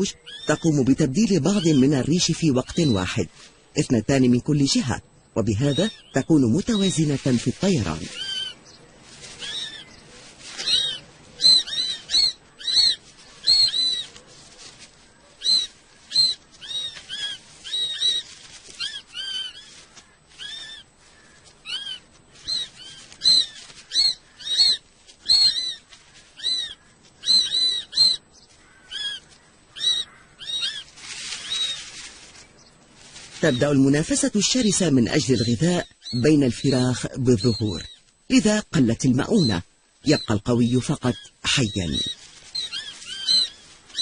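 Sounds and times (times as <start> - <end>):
bird chicks calling: 0.0 - 44.0.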